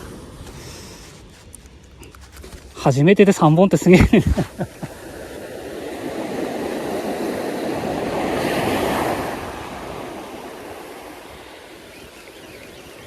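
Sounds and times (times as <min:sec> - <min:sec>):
wave breaking on beach: 0:00.0 - 0:01.4, 0:03.7 - 0:13.0.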